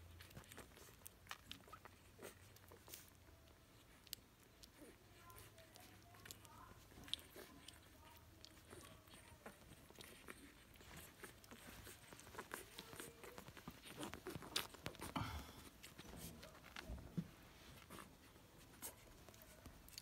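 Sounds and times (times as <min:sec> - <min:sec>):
puppies nibbling and scuffling: 0:00.0 - 0:20.0.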